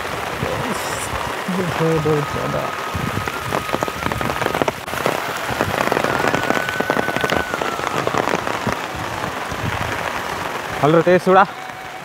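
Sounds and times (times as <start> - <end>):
heavy rain falling: 0.0 - 12.0
sharp raindrop hits: 0.0 - 12.0.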